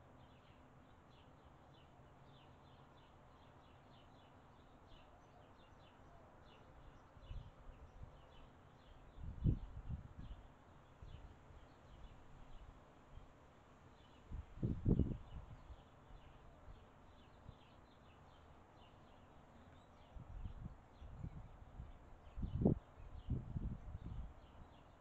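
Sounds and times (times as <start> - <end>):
small birds chirping: 0.0 - 13.3, 13.9 - 25.0.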